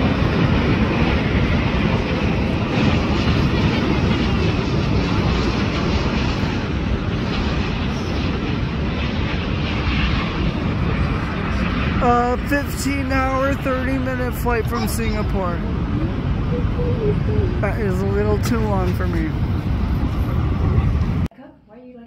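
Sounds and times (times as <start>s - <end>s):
jet engine rumble: 0.0s - 21.3s.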